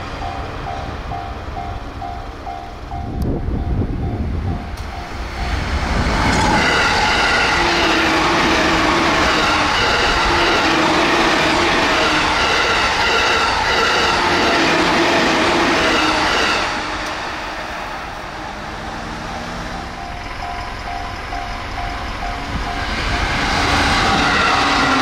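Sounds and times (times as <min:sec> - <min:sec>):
train wheels roaring on rail: 0:00.0 - 0:25.0
steady whining tones: 0:01.2 - 0:25.0.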